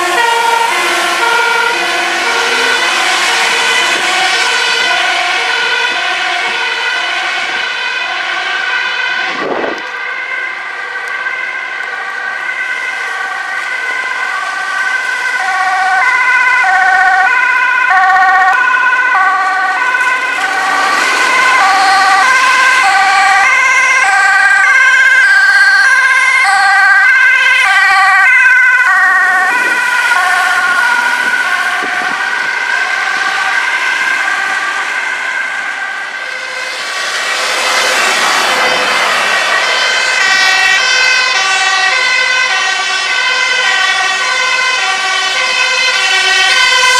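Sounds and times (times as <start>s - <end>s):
two-tone emergency sirens: 0.0s - 46.9s.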